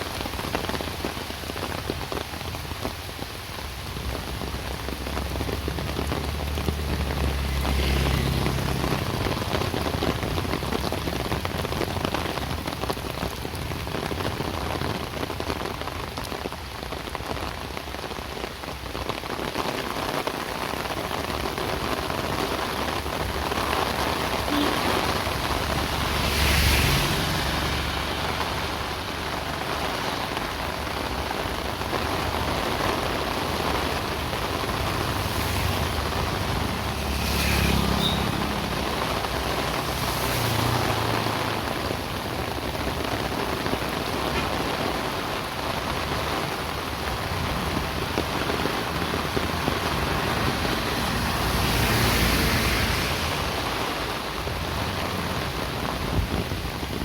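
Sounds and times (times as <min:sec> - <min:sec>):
steady rain falling: 0:00.0 - 0:57.0
vehicle passing on wet road: 0:00.0 - 0:57.0.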